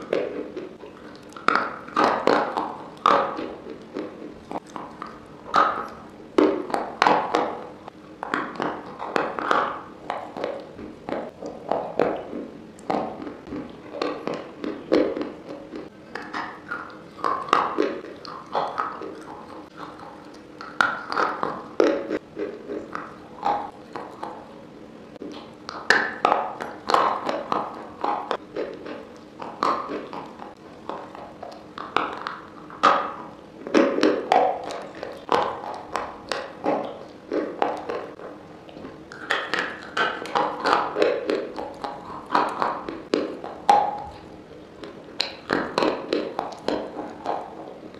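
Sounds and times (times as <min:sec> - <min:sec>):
crunchy biting and chewing: 0:00.0 - 0:24.6, 0:25.2 - 0:47.9.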